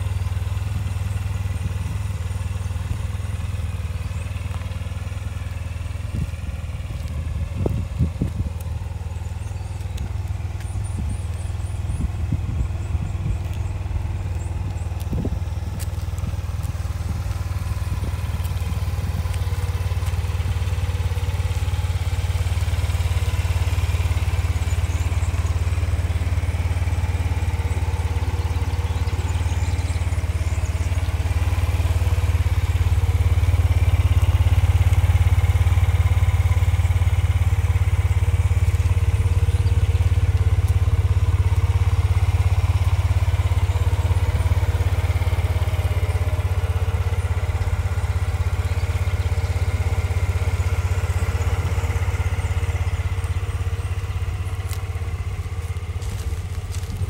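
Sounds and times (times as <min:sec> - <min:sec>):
scooter engine idling: 0:00.0 - 0:57.0.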